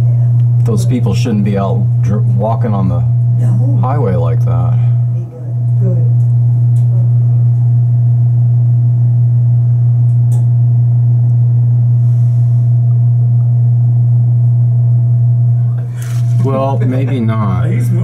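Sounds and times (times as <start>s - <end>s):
loud steady low hum: 0.0s - 18.0s.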